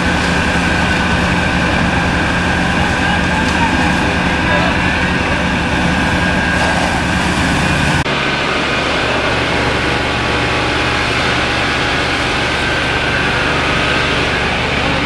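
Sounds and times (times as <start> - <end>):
fire engine pump running: 0.0 - 15.0
hose water jet rushing: 0.0 - 15.0.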